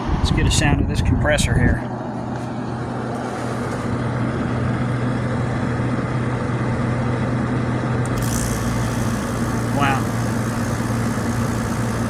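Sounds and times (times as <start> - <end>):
fan rushing: 0.0 - 6.5, 8.0 - 12.0
air conditioner compressor hum: 0.0 - 12.0.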